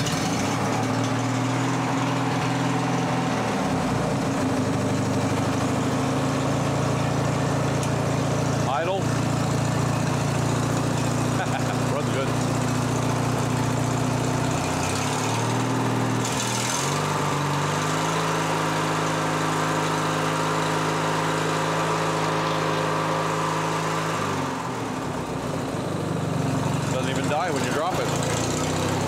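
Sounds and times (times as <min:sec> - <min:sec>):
mower engine running: 0:00.0 - 0:29.0.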